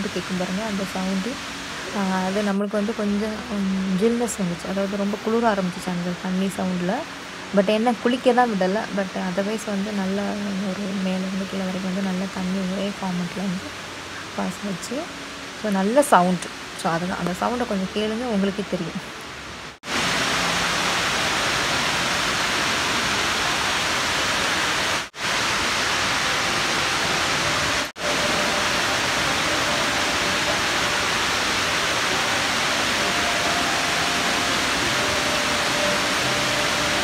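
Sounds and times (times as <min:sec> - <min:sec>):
waterfall rushing into pool: 0:00.0 - 0:37.0.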